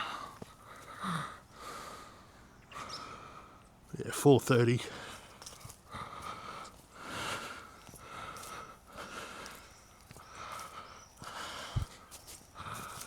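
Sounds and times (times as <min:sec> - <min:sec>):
man breathing hard: 0:00.0 - 0:03.6, 0:04.9 - 0:09.7, 0:10.3 - 0:13.0.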